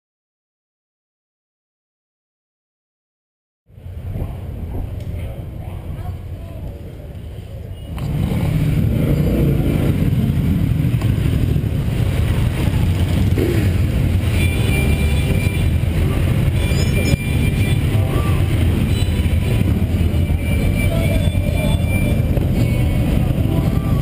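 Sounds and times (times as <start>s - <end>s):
motorcycle engines rumbling: 3.7s - 24.0s.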